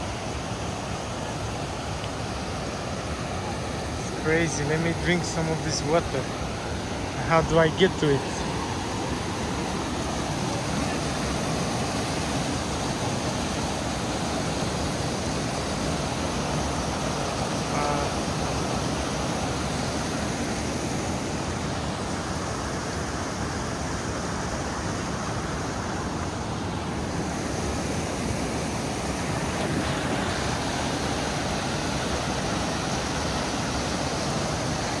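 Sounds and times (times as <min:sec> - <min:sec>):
stream rushing over boulders: 0:00.0 - 0:35.0.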